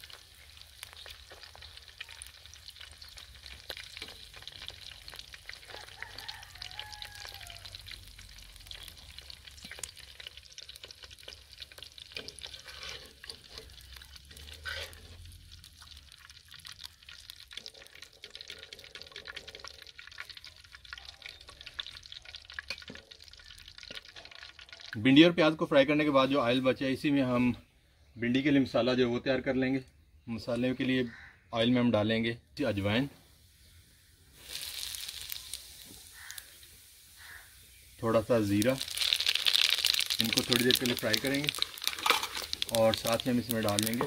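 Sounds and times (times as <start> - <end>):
hot oil sizzling and crackling: 0.0 - 27.6, 32.6 - 44.0.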